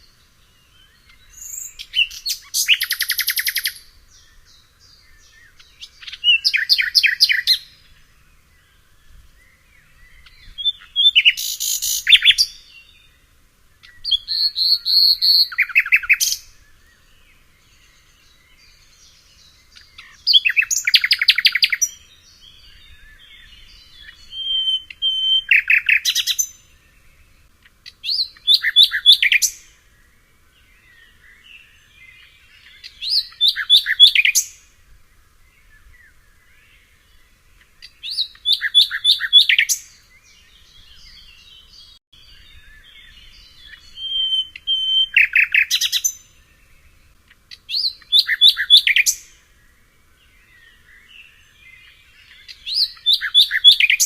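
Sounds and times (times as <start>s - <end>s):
faint bird chirps: 0.0s - 54.0s
songbird singing: 0.0s - 54.0s.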